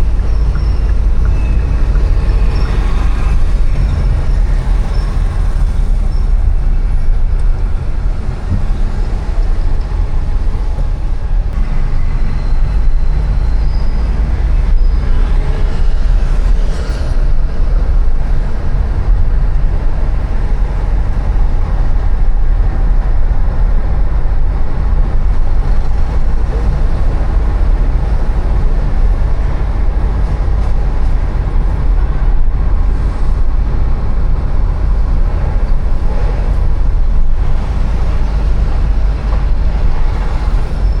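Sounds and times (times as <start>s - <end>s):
city street traffic rumble: 0.0s - 41.0s.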